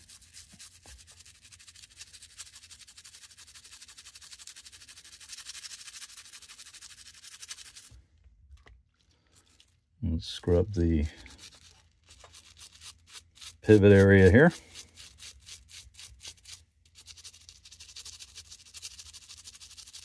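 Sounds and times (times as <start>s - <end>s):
toothbrush scrubbing metal blade: 0.0s - 7.9s, 11.0s - 20.0s.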